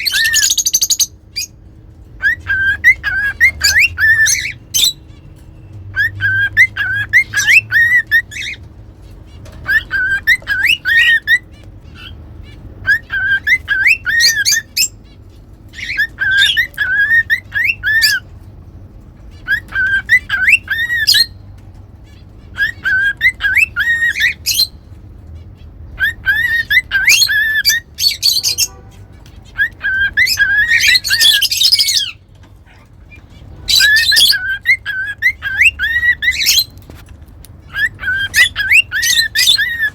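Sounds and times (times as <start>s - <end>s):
cockatiels whistling: 0.0s - 1.6s, 2.2s - 8.7s, 9.4s - 18.3s, 19.3s - 21.4s, 22.5s - 24.9s, 26.0s - 28.8s, 29.4s - 36.8s, 37.6s - 39.9s.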